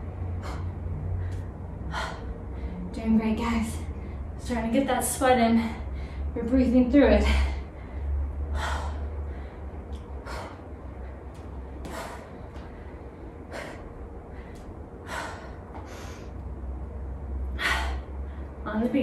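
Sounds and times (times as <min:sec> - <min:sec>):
woman breathing heavily: 0:00.0 - 0:04.5, 0:05.3 - 0:18.7.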